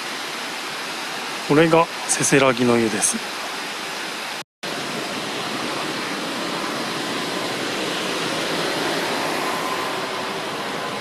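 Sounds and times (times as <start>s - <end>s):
mountain river rushing: 0.0s - 11.0s.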